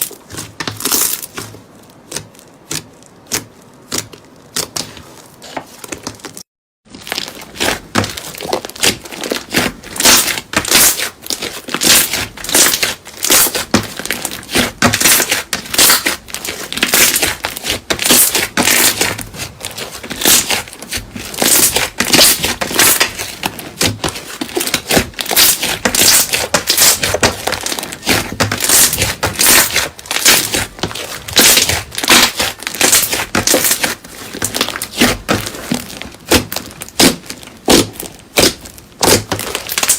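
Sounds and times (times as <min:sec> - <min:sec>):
slime crackling and crunching: 0:00.0 - 0:39.9.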